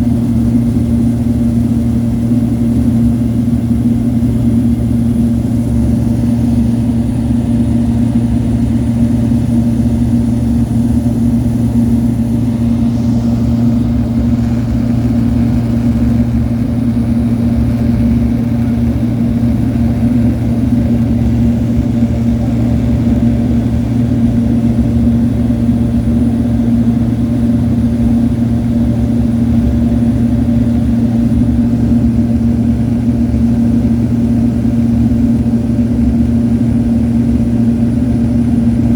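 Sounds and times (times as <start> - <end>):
turboprop engine drone: 0.0 - 38.9.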